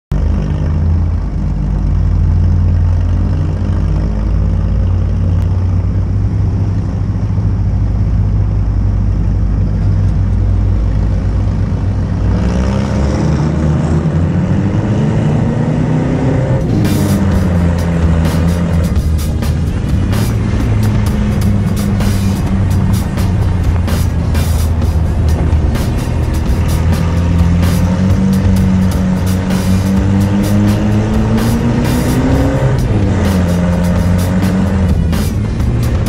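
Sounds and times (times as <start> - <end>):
pickup engine revving: 0.1 - 36.0.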